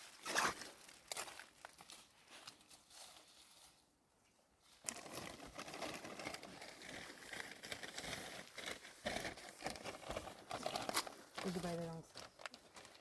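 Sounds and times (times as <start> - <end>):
rustling crinkling with crackles: 0.0 - 4.0, 4.6 - 13.0.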